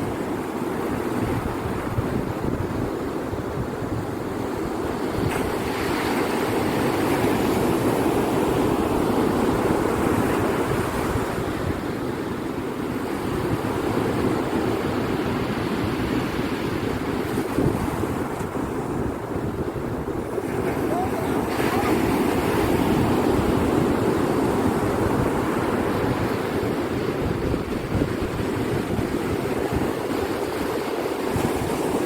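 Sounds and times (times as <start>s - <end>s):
ocean surf breaking on beach: 0.0s - 32.0s
wind rumbling on microphone: 0.0s - 32.0s.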